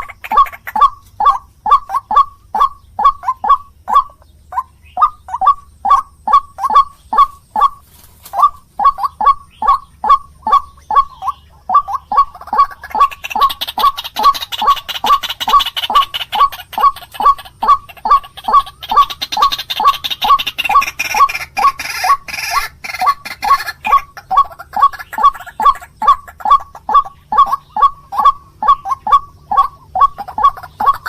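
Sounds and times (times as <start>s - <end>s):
waterhen calling harsh notes: 0.0s - 31.0s.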